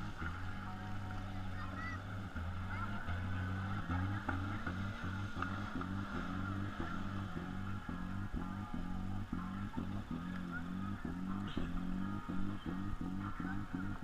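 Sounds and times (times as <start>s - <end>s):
music with stepping bass line: 0.0s - 14.0s.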